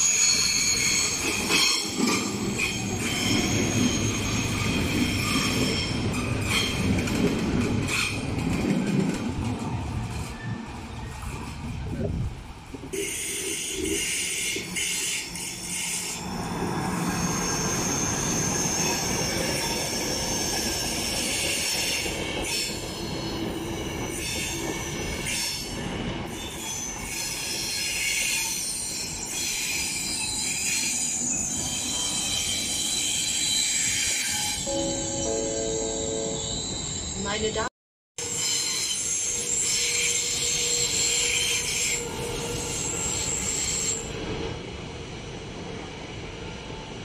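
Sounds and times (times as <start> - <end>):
train wheels squealing on rails: 0.0 - 12.2, 12.8 - 44.8
train rumble: 0.0 - 38.3.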